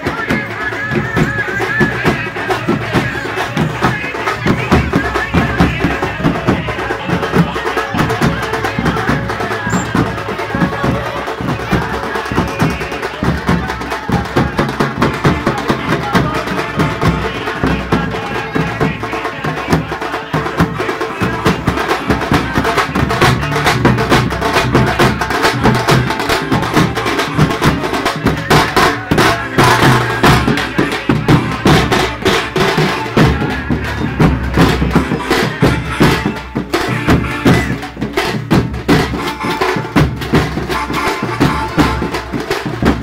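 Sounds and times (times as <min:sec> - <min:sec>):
loud rapid drumming: 0:00.0 - 0:43.0
street band playing: 0:00.0 - 0:43.0.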